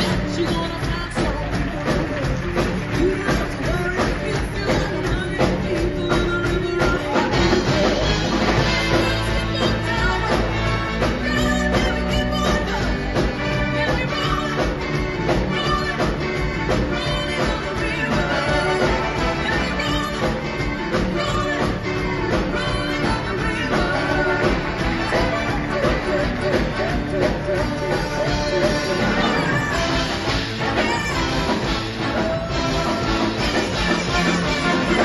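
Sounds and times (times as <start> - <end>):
live rock and roll band: 0.0 - 35.0.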